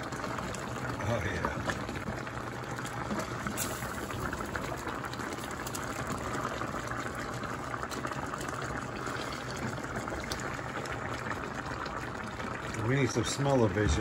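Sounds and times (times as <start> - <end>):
pot of water boiling: 0.0 - 14.0
sauce simmering in a pan: 0.0 - 14.0.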